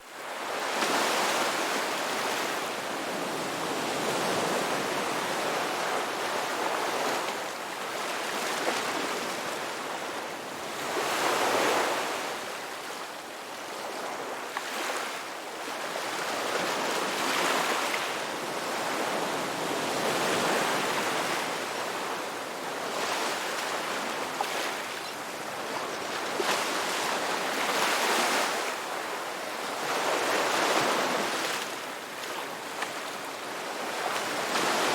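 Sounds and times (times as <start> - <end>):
ocean waves breaking on beach: 0.0 - 34.9.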